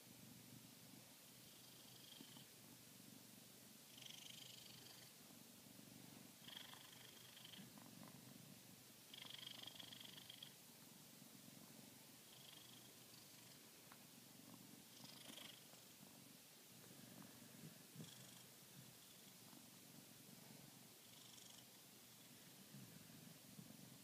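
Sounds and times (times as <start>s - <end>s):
cat purring: 0.2s - 24.0s.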